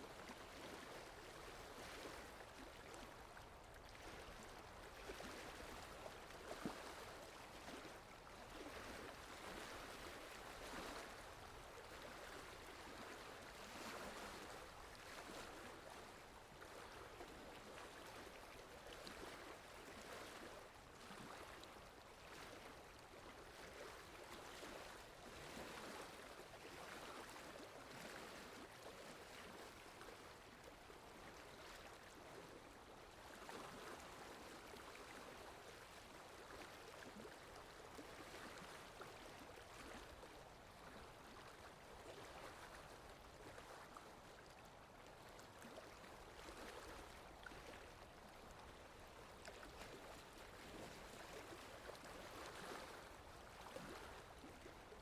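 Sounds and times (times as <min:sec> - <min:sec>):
water lapping: 0:00.0 - 0:55.0
wind: 0:00.0 - 0:55.0.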